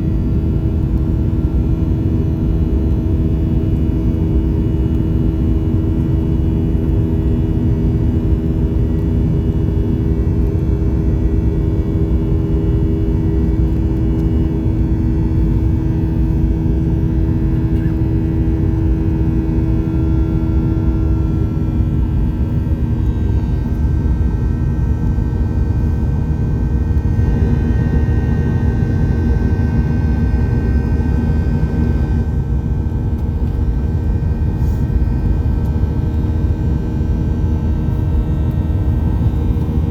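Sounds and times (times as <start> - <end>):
jet engines rumbling in flight: 0.0 - 39.9.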